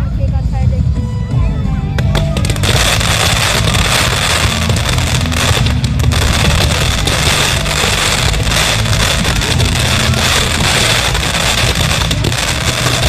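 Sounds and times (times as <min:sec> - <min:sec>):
music playing: 0:00.0 - 0:13.0
fireworks crackling and popping: 0:02.0 - 0:13.0.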